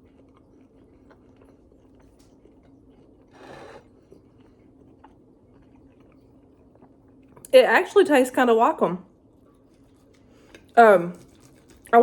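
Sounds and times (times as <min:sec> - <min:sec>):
chewing food: 0:00.0 - 0:07.5, 0:09.2 - 0:12.0.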